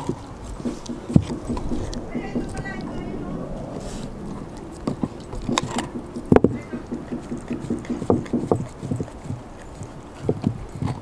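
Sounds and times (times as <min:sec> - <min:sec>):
dog chewing bone: 0:00.0 - 0:11.0.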